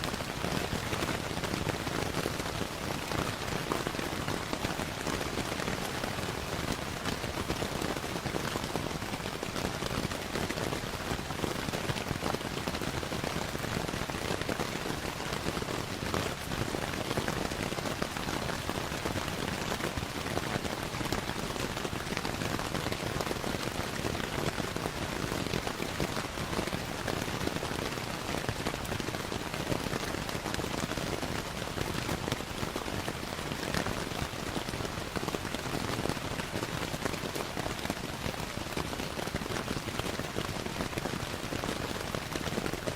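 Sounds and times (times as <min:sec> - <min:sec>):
rain pattering: 0:00.0 - 0:42.9.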